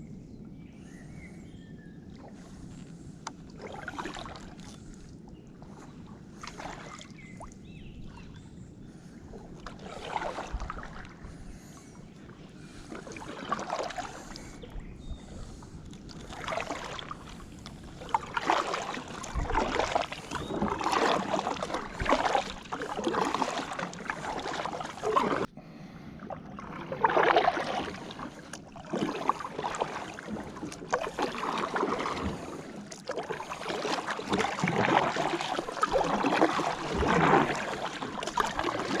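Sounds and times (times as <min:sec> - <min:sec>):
paddle strokes splashing in water: 0:02.2 - 0:08.3, 0:09.3 - 0:25.5, 0:26.2 - 0:39.0.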